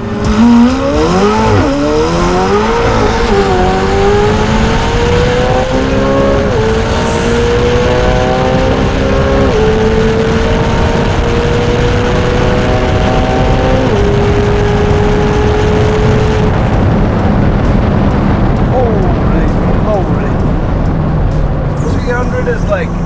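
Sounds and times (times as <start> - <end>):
sports car engine at full throttle: 0.0 - 23.0.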